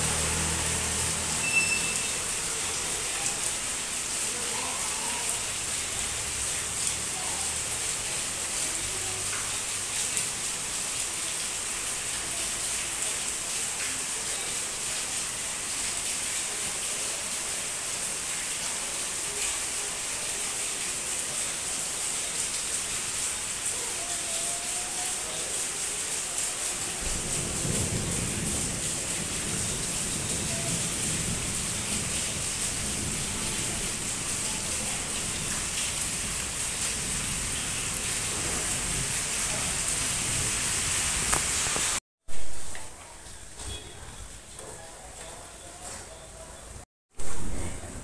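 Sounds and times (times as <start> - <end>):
steady rain: 0.0 - 48.0.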